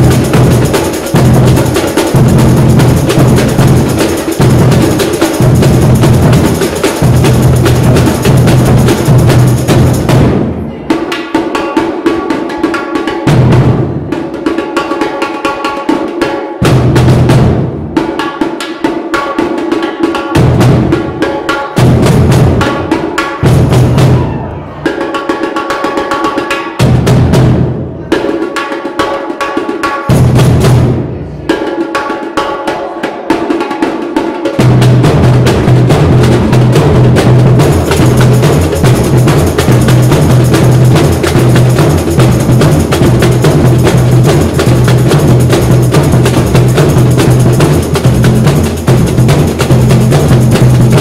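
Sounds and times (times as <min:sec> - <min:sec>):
drum band playing: 0:00.0 - 0:51.0.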